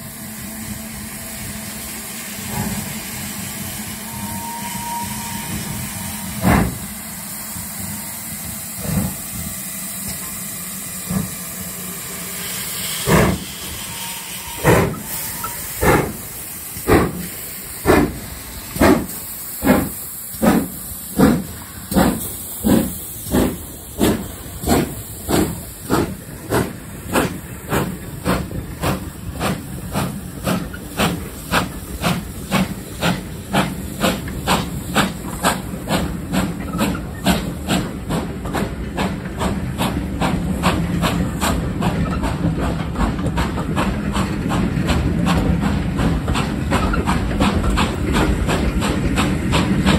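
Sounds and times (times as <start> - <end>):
steam hissing: 0.0 - 49.9
steam locomotive exhaust beats: 0.0 - 49.9.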